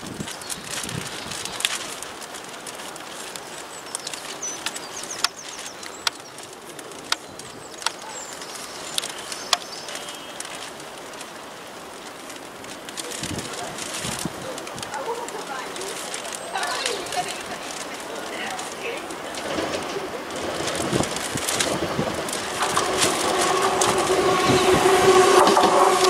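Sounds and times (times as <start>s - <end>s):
train rumble: 0.0s - 26.0s
train wheels clicking over rail joints: 0.0s - 26.0s
birds chirping: 0.2s - 12.1s, 13.0s - 26.0s.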